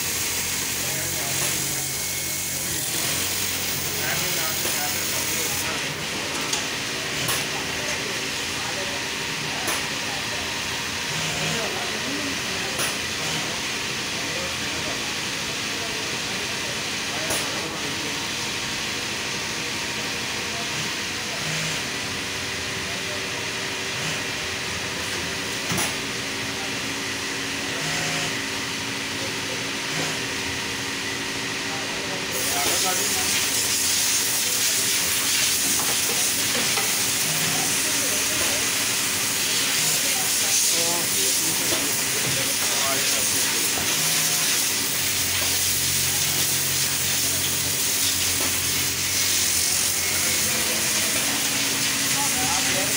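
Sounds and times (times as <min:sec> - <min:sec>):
sewing machine hum and hiss: 0:00.0 - 0:52.9.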